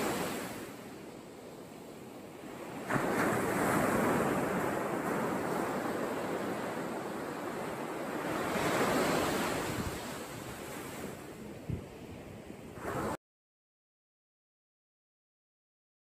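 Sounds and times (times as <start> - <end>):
surf washing on sandy shore: 0.0 - 13.2.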